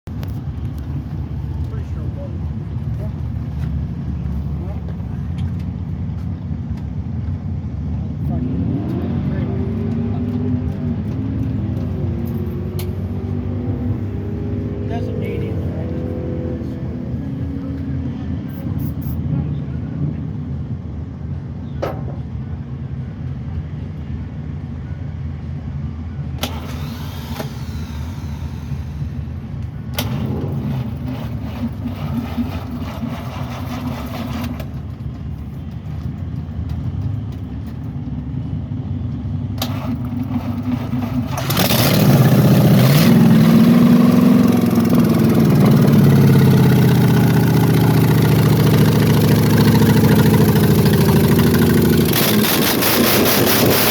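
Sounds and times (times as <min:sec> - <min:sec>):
car engine idling and revving: 0:00.0 - 0:53.9.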